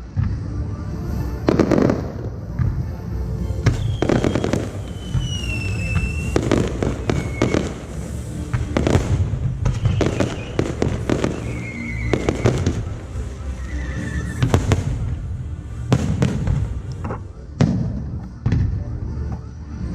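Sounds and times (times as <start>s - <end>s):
fireworks bursting: 0.0s - 18.9s
low rumble: 0.0s - 19.3s
fireworks whistling: 1.1s - 18.2s.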